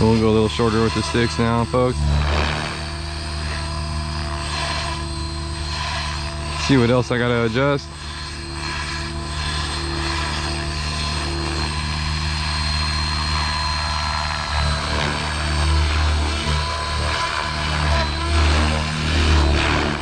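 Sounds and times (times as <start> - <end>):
electric motor whine: 0.0 - 20.0
helicopter rotor buzz: 0.0 - 20.0.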